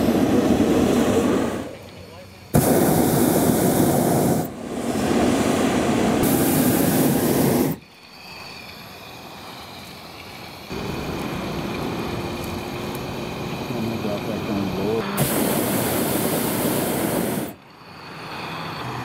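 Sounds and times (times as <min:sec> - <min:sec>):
quiet steady rushing: 0:00.0 - 0:18.7
propane burner roaring: 0:00.0 - 0:19.0.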